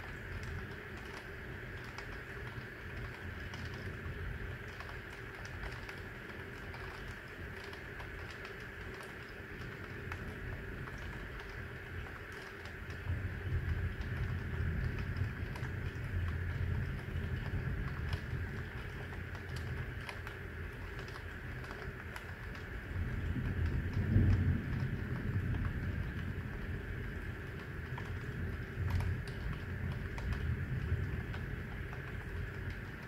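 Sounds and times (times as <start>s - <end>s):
sharp ticks of raindrops: 0.0s - 33.0s
steady rain: 0.0s - 33.0s.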